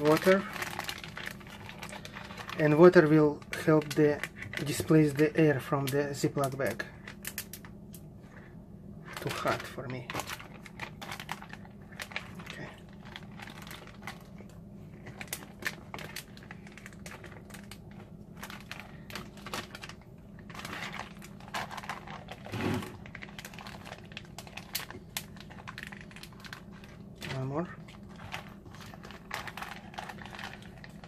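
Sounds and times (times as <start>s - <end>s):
plastic bags crinkling: 0.0s - 7.8s, 9.0s - 31.0s.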